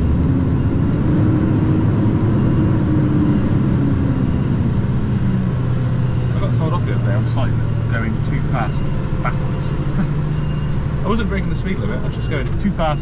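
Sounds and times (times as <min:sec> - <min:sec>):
lorry diesel engine reversing: 0:00.0 - 0:13.0.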